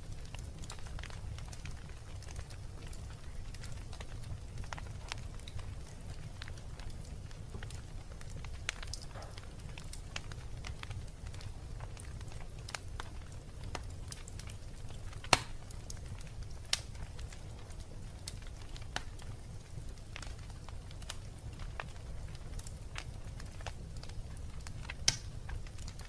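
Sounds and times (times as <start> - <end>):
wood fire crackling: 0.0 - 26.0
sharp pops of fire: 0.1 - 26.0.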